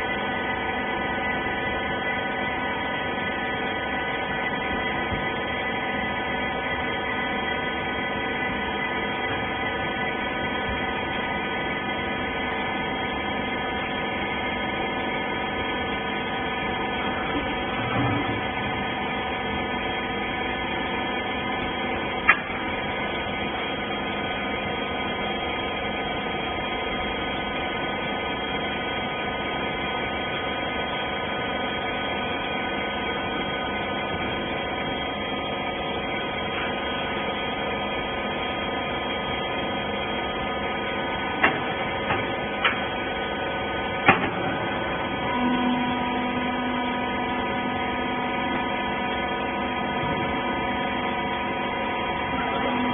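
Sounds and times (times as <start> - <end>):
hydraulic power unit humming: 0.0 - 52.9.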